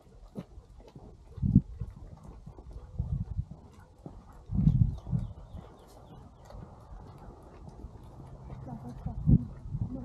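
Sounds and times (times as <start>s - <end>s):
footsteps on concrete: 0.0s - 10.0s.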